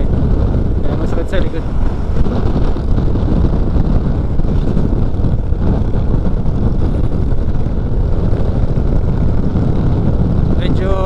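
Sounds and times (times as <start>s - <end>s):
motorcycle engine and road rumble: 0.0s - 11.0s
wind buffeting microphone: 0.0s - 11.0s.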